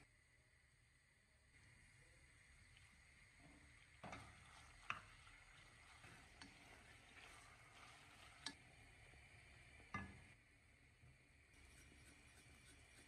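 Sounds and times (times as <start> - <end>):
chicken sizzling in oil: 1.3 - 13.0.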